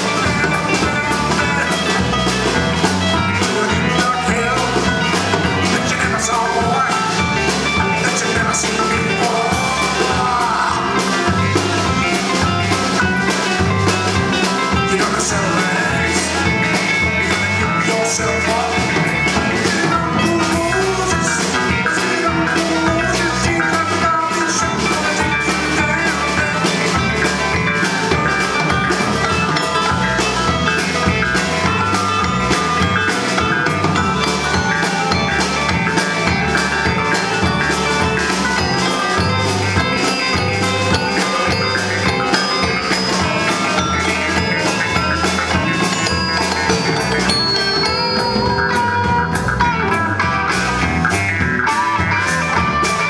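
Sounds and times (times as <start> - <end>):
drum kit beat: 0.0 - 53.0
rock band playing: 0.0 - 53.0.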